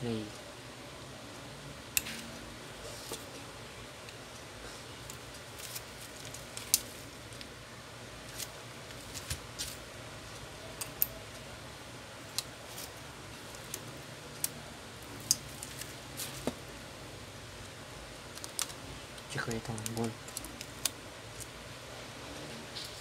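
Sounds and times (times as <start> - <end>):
steady low background hum: 0.0 - 23.0.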